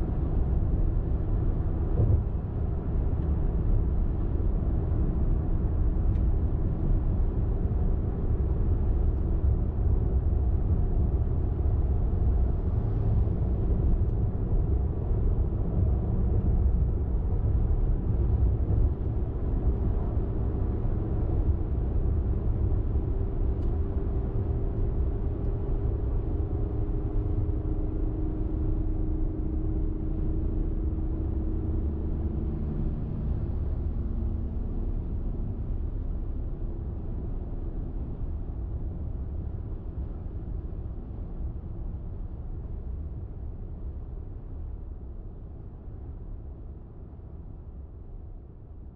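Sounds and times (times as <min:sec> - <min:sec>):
faint engine hum: 0:00.0 - 0:48.9
road rumble and tyre noise: 0:00.0 - 0:48.9.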